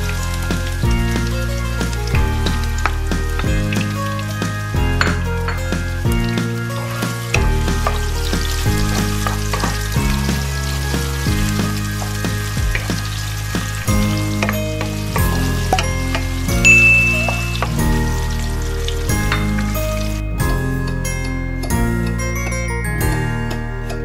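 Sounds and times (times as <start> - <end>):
onion sizzling in hot oil: 0.0 - 20.8
background music: 0.0 - 24.0.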